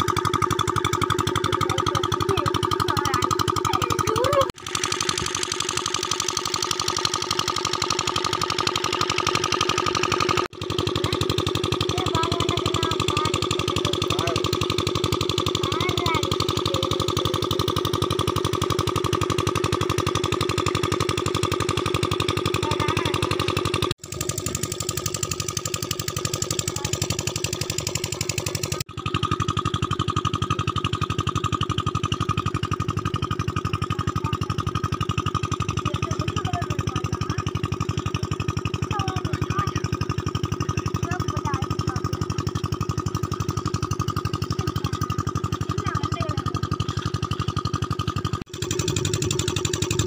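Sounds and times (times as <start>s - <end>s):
engine running steadily: 0.0s - 50.0s.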